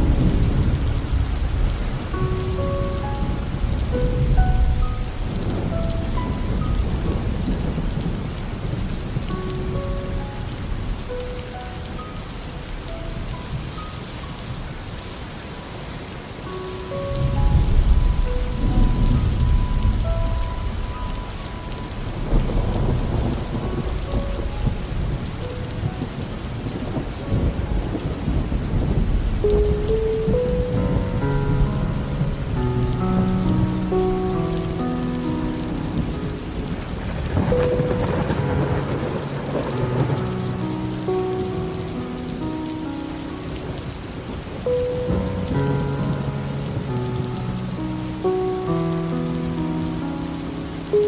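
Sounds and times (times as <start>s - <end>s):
rolling thunder: 0.0s - 13.9s, 16.8s - 50.0s
steady rain falling: 0.0s - 51.0s.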